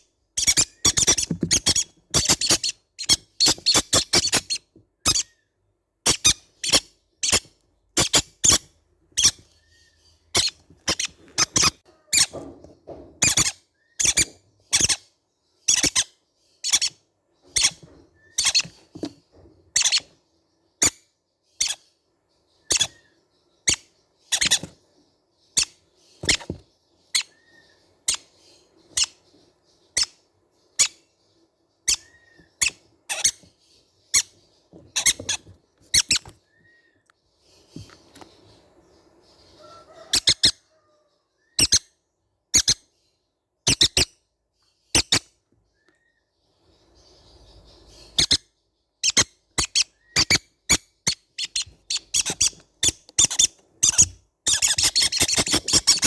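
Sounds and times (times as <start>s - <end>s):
parrot chicks squeaking: 0.0s - 20.2s, 20.8s - 22.0s, 22.6s - 42.9s, 43.6s - 44.2s, 44.9s - 45.4s, 46.8s - 56.0s.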